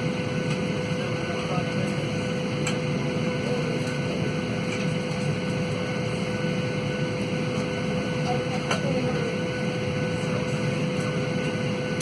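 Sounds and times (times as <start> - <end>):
airplane cabin rumble: 0.0 - 12.0
constant hum: 0.0 - 12.0.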